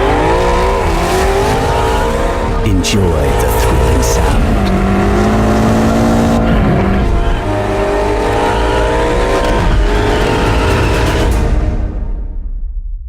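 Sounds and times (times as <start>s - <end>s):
car engine accelerating hard: 0.0s - 11.4s.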